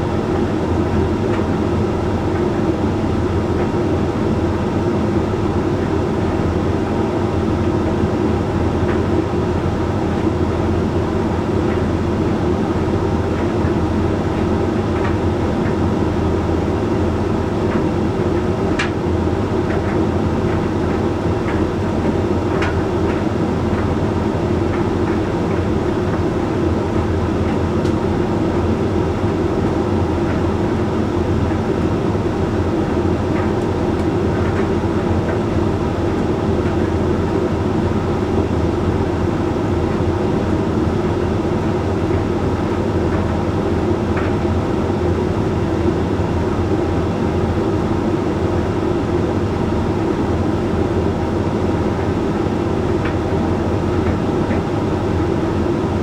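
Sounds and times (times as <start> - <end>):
tumble dryer motor hum: 0.0 - 56.0.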